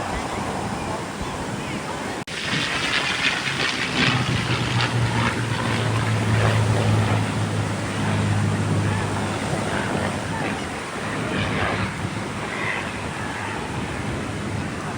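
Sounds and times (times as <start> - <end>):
surf: 0.0 - 14.9
wind noise on microphone: 0.0 - 14.9
low engine drone: 2.2 - 14.9.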